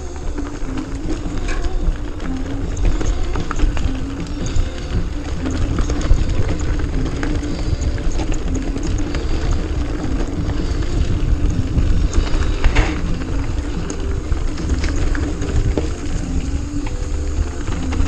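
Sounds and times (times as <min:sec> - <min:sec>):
bike clicks and rattles: 0:00.0 - 0:18.0
wind and tyre rumble: 0:00.0 - 0:18.0.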